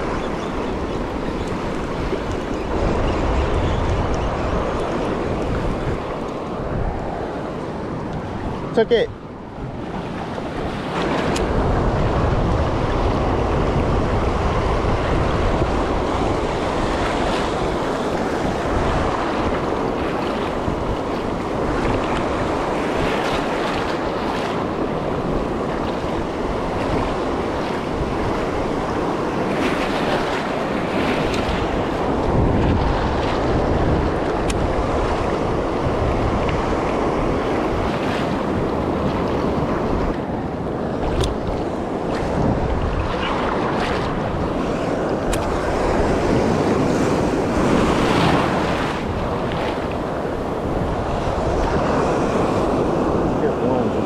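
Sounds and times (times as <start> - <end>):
ocean surf breaking: 0.0 - 54.0
wind rumbling on microphone: 0.0 - 54.0.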